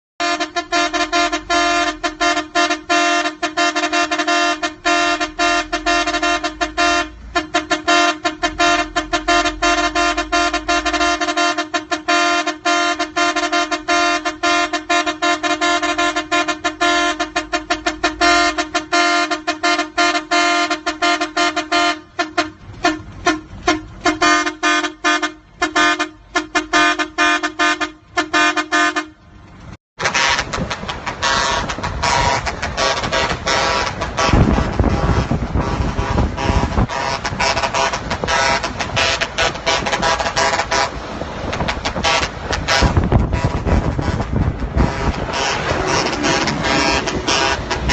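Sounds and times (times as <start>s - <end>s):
truck horn tooting: 0.2s - 47.9s.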